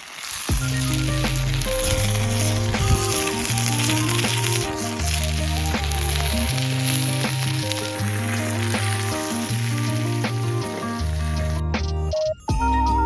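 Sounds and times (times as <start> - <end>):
food frying sizzle: 0.0 - 11.6
music with bass and beat: 0.5 - 13.0.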